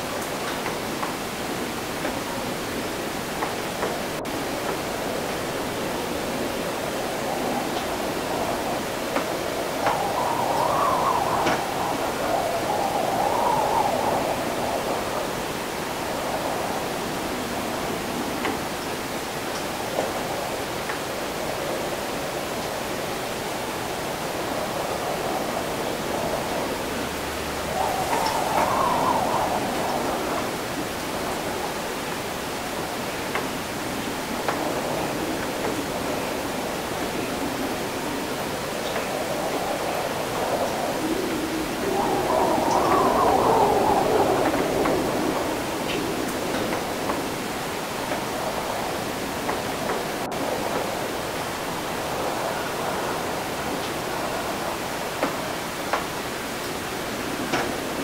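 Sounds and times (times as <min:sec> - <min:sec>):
faint howl: 0:00.0 - 0:58.0
wind with wet hiss: 0:00.0 - 0:58.0.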